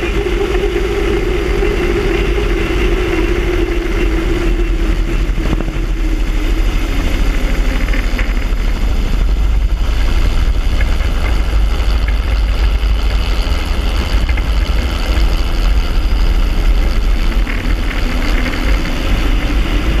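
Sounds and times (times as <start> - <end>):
heavy wind rush: 0.0 - 20.0
helicopter engine and rotor: 0.0 - 20.0
wavering humming tone: 0.0 - 20.0.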